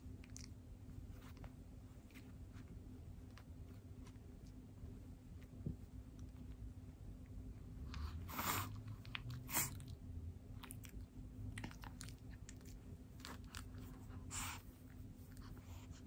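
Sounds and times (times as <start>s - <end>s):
puppy chewing towel: 0.0s - 16.0s.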